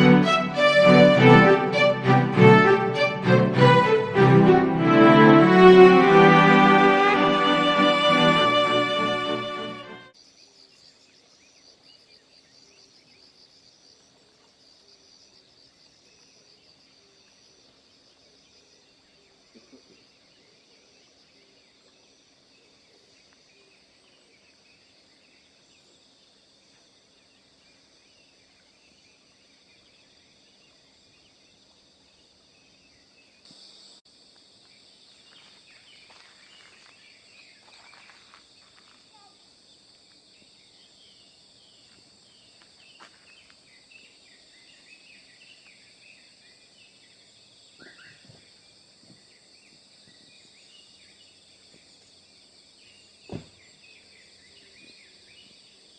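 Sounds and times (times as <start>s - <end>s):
insect chorus: 10.1s - 55.9s.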